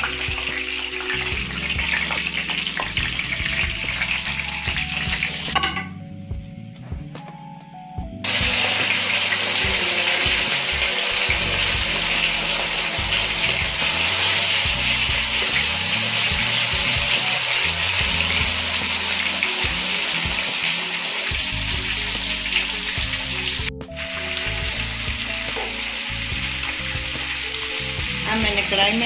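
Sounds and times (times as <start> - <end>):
chicken frying in hot oil: 0.0 - 5.7, 8.2 - 29.0
low music: 0.0 - 29.0.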